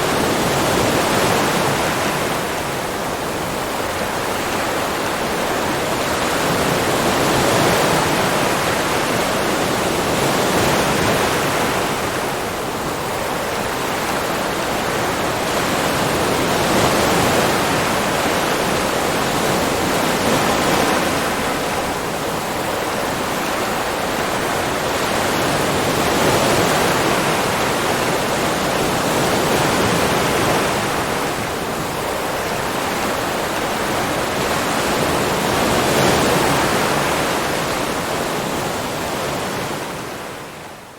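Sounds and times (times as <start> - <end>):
ocean waves: 0.0 - 40.9.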